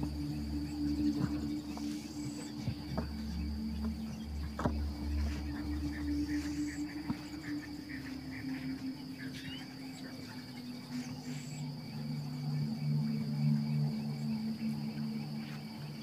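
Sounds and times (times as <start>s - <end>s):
crickets chirring: 0.0s - 16.0s
low sustained hum: 0.0s - 16.0s.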